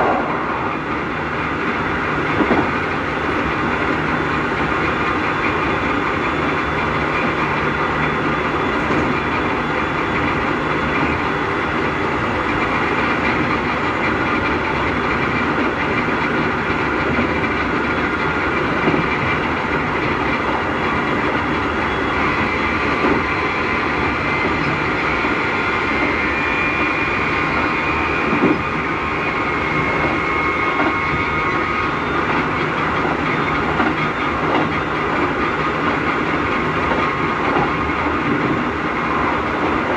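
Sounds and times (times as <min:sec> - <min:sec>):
electric train motor whine: 0:00.0 - 0:39.9
train running noise: 0:00.0 - 0:39.9.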